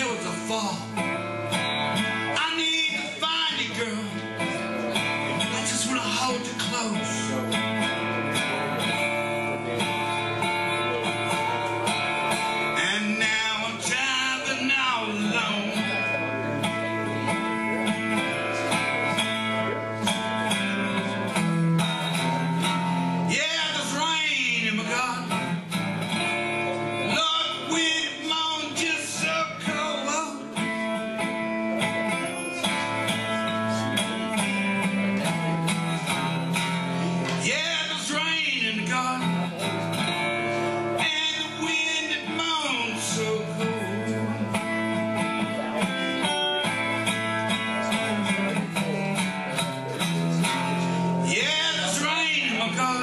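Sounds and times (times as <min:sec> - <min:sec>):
resonator guitar strummed: 0:00.0 - 0:53.0.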